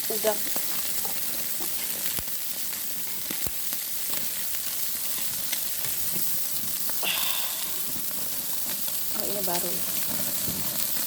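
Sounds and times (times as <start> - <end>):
shrimp sizzling on a grill: 0.0 - 11.0.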